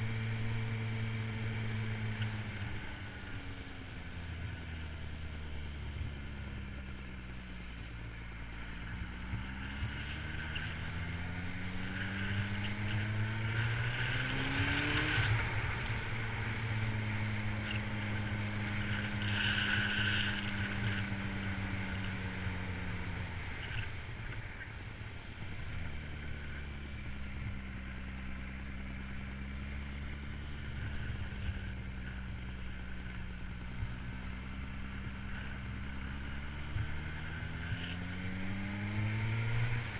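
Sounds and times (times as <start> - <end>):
road rumble: 0.0 - 39.9
wind: 0.0 - 39.9
vehicle engine revving: 4.4 - 24.4, 25.4 - 39.9.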